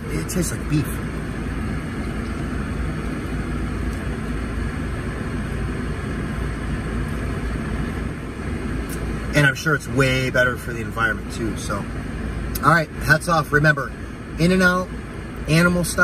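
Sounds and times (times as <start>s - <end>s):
air conditioning fan blowing: 0.0s - 16.0s
car engine rumble: 0.0s - 16.0s.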